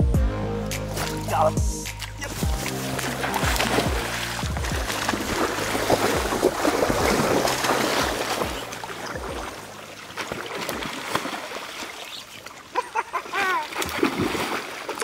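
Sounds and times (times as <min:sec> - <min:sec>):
river current rushing: 0:00.8 - 0:13.4
fish thrashing and splashing: 0:01.9 - 0:15.0.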